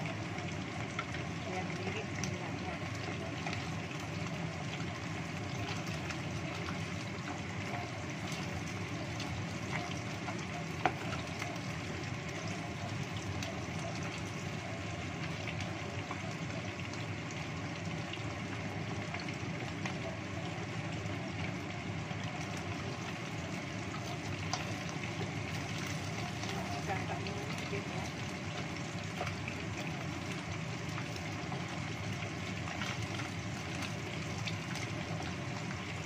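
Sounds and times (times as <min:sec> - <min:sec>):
oil sizzling in a pot: 0:00.0 - 0:36.0.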